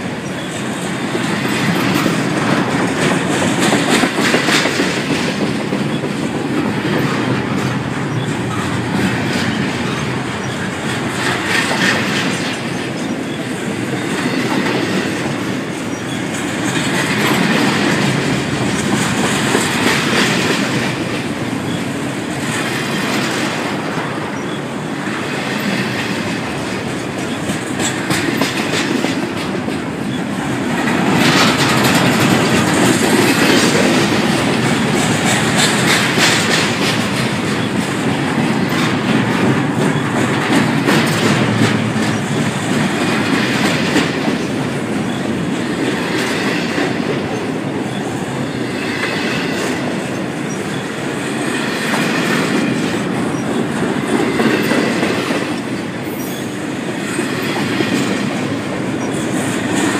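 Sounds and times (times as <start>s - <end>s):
steel wheels rumbling on rail: 0.0s - 59.9s
wheels clicking over rail joints: 0.0s - 59.9s.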